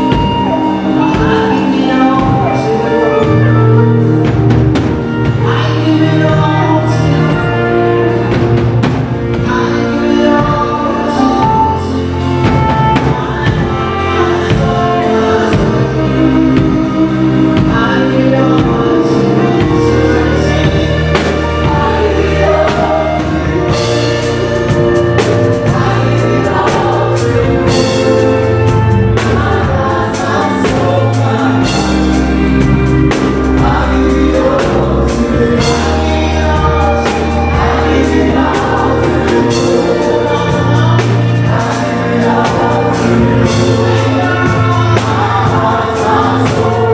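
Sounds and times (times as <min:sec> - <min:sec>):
bass and drum kit: 0:00.0 - 0:46.9
group singing gospel song: 0:00.0 - 0:46.9.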